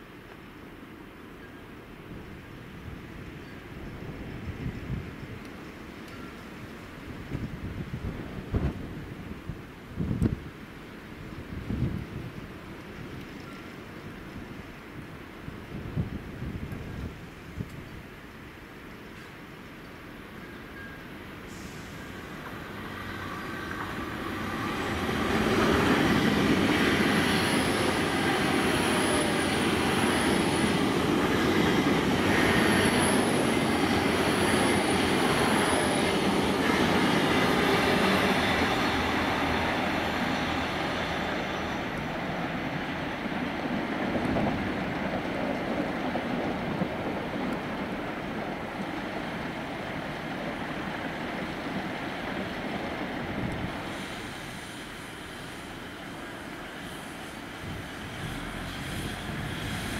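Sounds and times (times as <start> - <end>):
train passing: 0.0 - 59.9.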